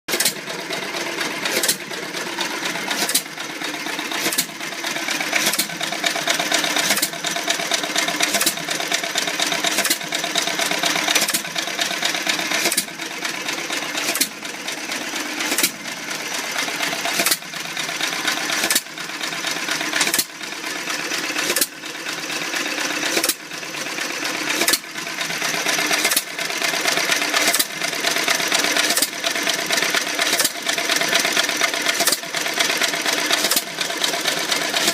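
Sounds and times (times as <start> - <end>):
mechanical clatter of running gear: 0.1 - 21.8, 22.7 - 23.4, 24.4 - 34.9.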